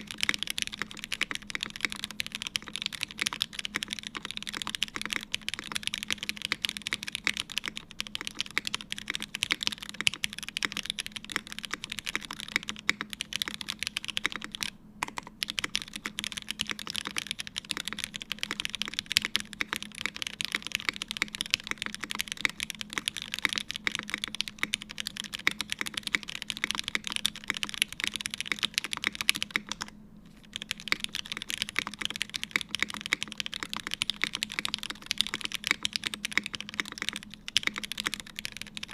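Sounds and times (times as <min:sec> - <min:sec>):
mechanical keyboard typing: 0:00.0 - 0:29.9, 0:30.5 - 0:38.9.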